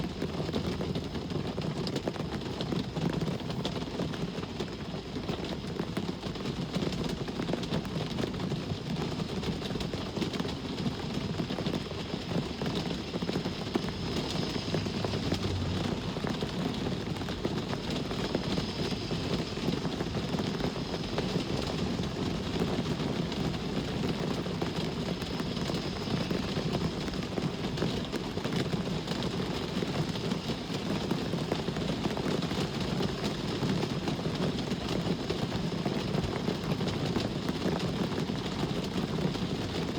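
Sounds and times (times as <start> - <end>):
low rumble of traffic: 0.0 - 39.9
rain falling: 0.0 - 39.9.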